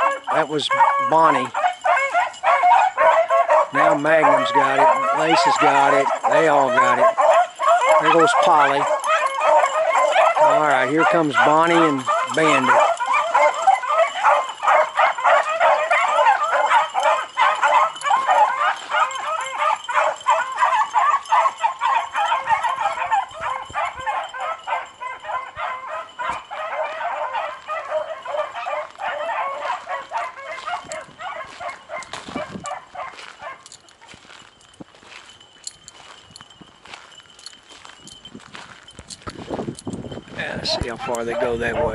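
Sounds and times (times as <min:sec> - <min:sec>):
hounds baying and yelping: 0:00.0 - 0:41.9.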